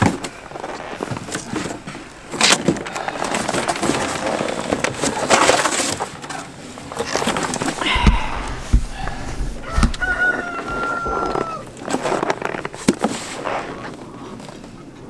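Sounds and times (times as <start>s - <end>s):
cardboard crackling and scraping: 0.0s - 14.8s.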